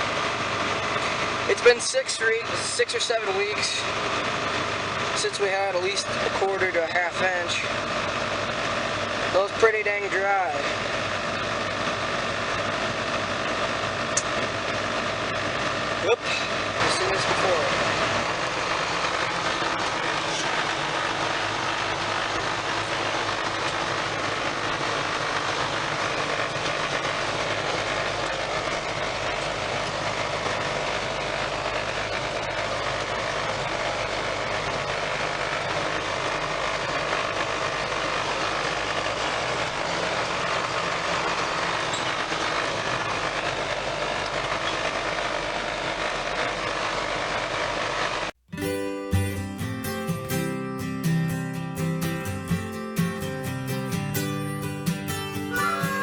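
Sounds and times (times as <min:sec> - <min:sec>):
tractor diesel engine drone: 0:00.0 - 0:56.0.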